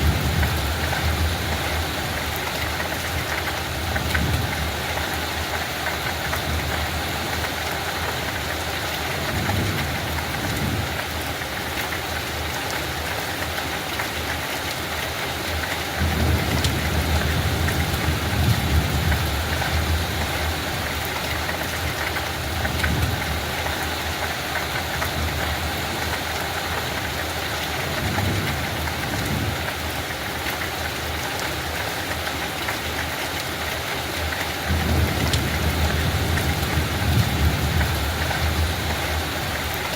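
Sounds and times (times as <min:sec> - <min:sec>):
light rain on a field: 0:00.0 - 0:39.9.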